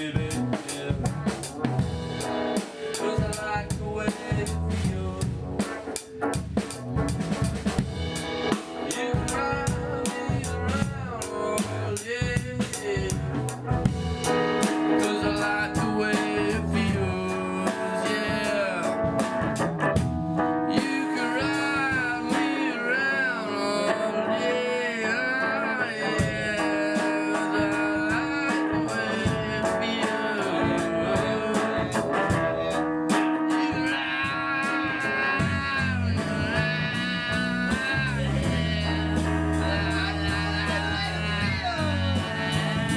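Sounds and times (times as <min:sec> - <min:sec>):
drum beat: 0:00.0 - 0:22.6, 0:26.2 - 0:42.9
bluesy guitar: 0:00.0 - 0:42.9.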